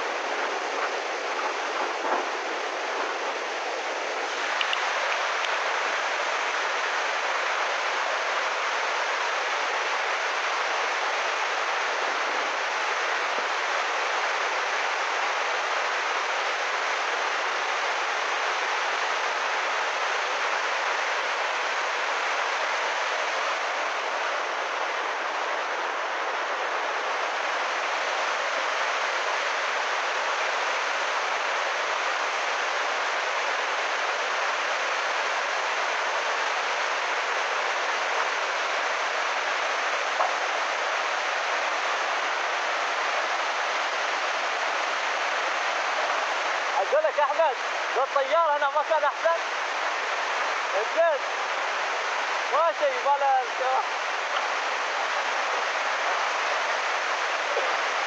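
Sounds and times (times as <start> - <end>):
floodwater rushing: 0.0 - 58.0.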